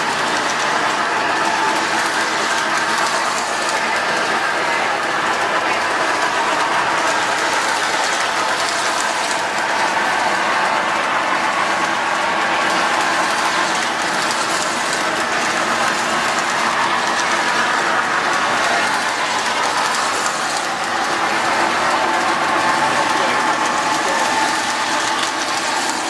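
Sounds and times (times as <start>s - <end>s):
model train wheels rolling on track: 0.0s - 26.0s.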